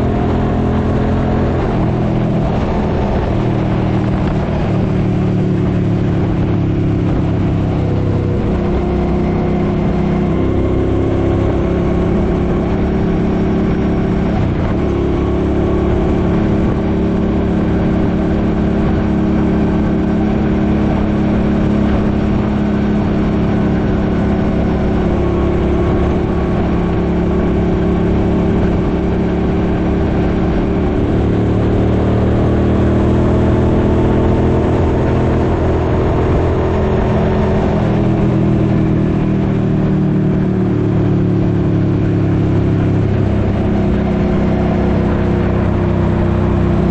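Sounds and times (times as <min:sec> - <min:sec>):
motorcycle engine running: 0:00.0 - 0:46.9
wind on microphone: 0:00.0 - 0:46.9.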